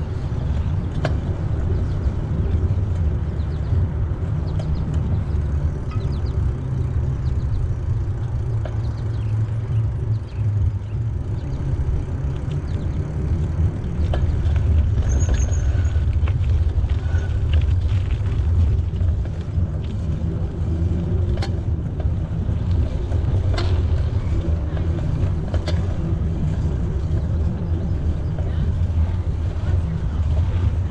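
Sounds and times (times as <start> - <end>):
bicycle tyres on path: 0.0 - 30.9
wind rumble on microphone: 0.0 - 30.9.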